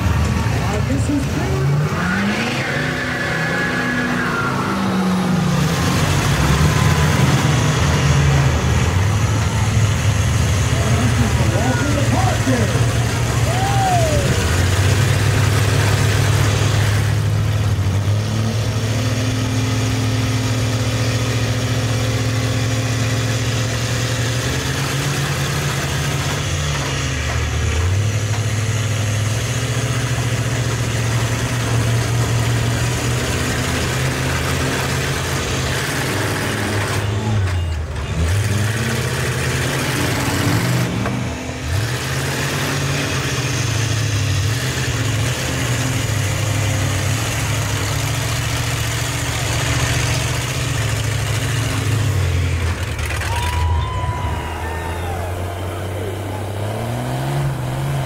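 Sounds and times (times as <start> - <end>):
truck engines idling: 0.0 - 58.0.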